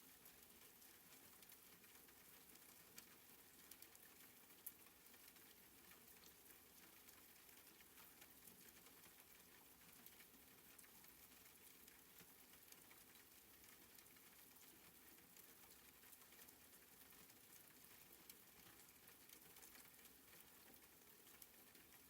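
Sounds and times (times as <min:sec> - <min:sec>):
raindrop ticks: 0:00.0 - 0:22.0
soft rain hiss: 0:00.0 - 0:22.0.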